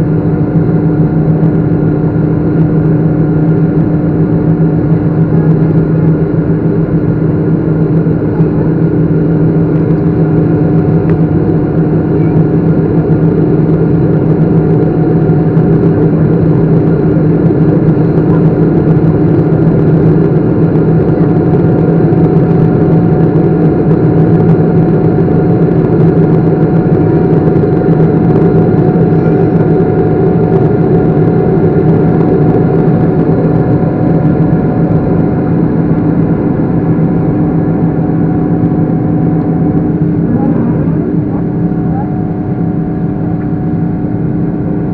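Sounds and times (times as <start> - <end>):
jet engines droning: 0.0 - 44.9.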